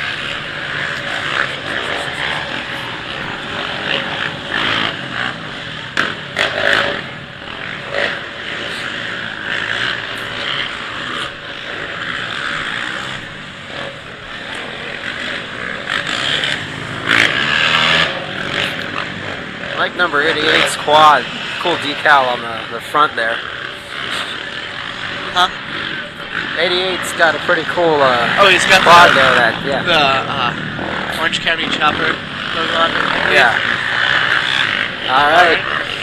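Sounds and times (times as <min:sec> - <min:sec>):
quad engines revving: 0:00.0 - 0:36.0.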